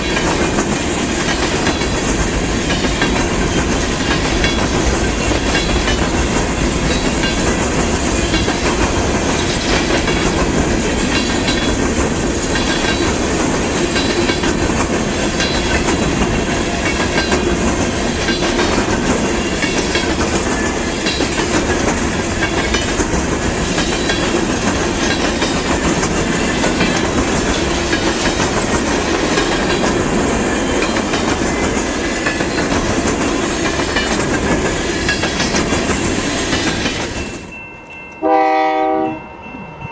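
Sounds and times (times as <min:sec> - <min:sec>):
steel wheels rolling on rails: 0:00.0 - 0:38.6.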